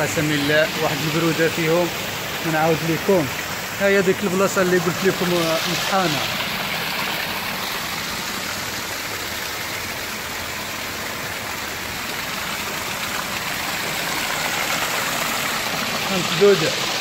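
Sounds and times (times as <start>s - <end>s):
water rushing in stone channel: 0.0s - 17.0s.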